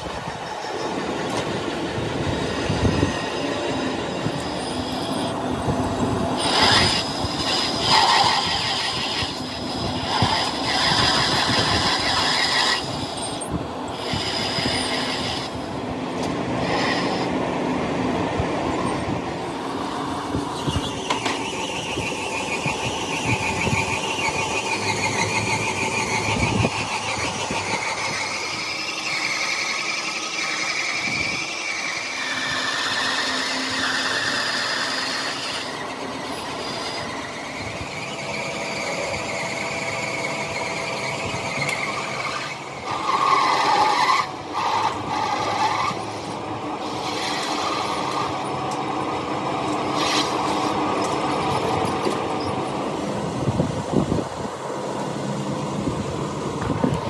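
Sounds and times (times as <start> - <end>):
high-pitched machine squealing: 0.0 - 54.4
dense machine hum: 0.0 - 57.0.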